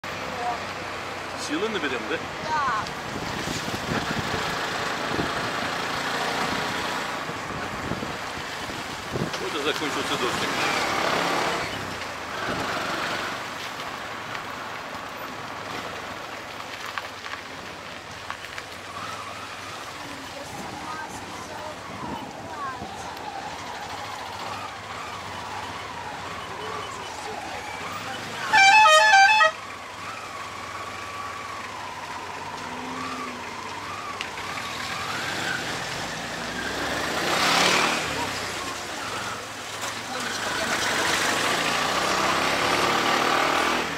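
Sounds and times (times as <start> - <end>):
auto-rickshaw engine running: 0.0 - 43.9
road noise: 0.0 - 43.9.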